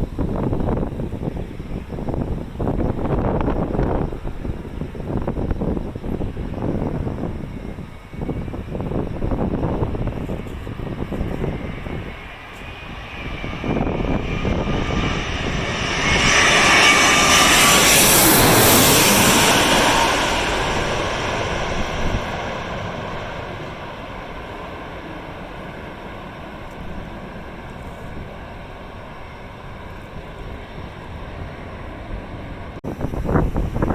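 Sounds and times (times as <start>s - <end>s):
airliner engine passing overhead: 0.0s - 33.9s
wind buffeting microphone: 0.0s - 33.9s.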